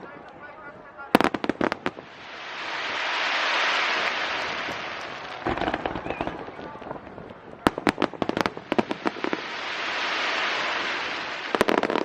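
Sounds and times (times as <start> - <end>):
fireworks bangs: 0.0 - 12.0
fireworks crackling hiss: 0.0 - 12.0.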